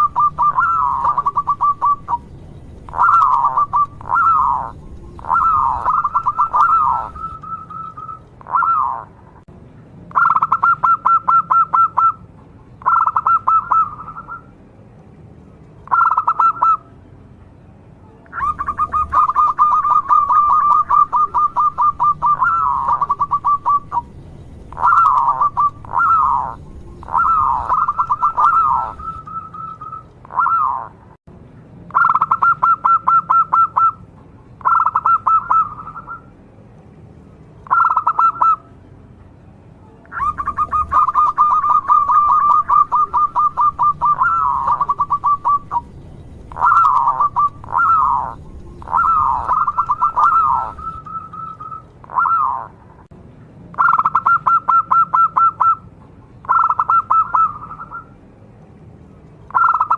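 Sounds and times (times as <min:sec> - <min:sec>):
dove cooing and trilling: 0:00.0 - 0:09.2, 0:10.1 - 0:12.2, 0:12.8 - 0:14.5, 0:15.8 - 0:16.9, 0:18.3 - 0:31.0, 0:32.0 - 0:34.0, 0:34.6 - 0:36.3, 0:37.6 - 0:38.6, 0:40.1 - 0:52.8, 0:53.8 - 0:58.2, 0:59.5 - 0:59.9.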